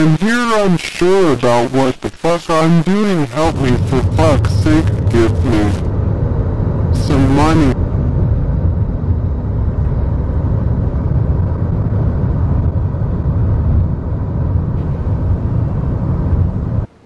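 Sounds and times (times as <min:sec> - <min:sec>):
road vehicle rumble: 0:03.1 - 0:17.0.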